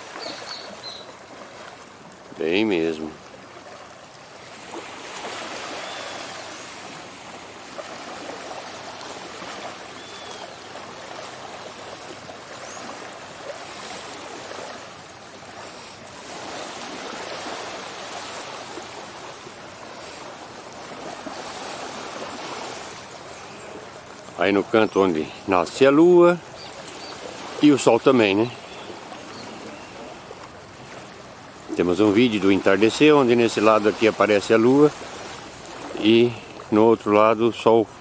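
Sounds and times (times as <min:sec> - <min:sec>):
small waves lapping on beach: 0:00.0 - 0:38.0.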